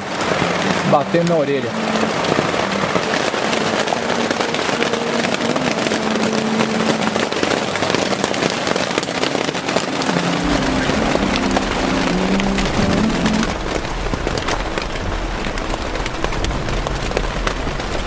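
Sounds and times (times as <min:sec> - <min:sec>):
heavy rain on plastic tarp: 0:00.0 - 0:18.0.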